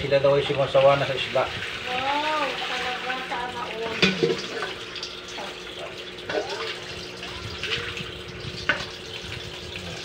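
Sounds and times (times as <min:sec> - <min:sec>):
tap water running into metal bowl: 0:00.0 - 0:10.0
water splashing and sloshing: 0:00.4 - 0:10.0.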